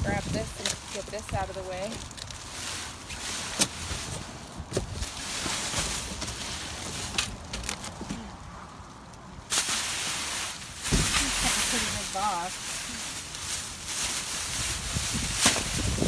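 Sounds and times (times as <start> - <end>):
rustling in a dumpster: 0.0 - 16.0.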